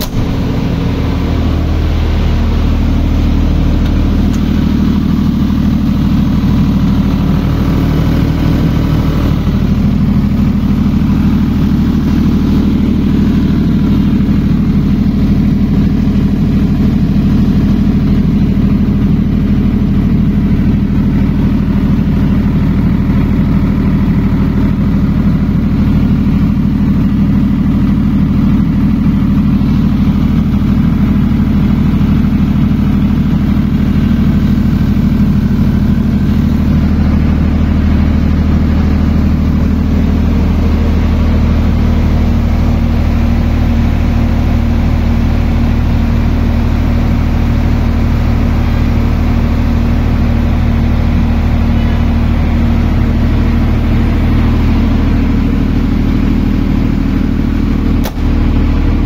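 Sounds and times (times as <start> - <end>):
diesel generator drone: 0.0 - 59.0.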